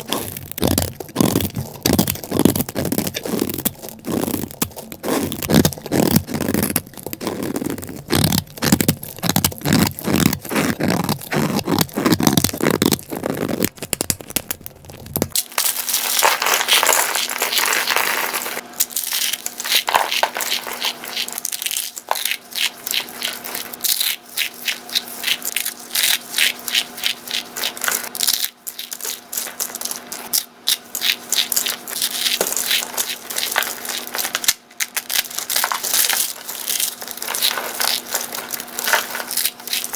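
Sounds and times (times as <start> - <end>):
brittle material crunching: 0.0 - 39.9
crisp cracks and crackles: 0.0 - 39.9.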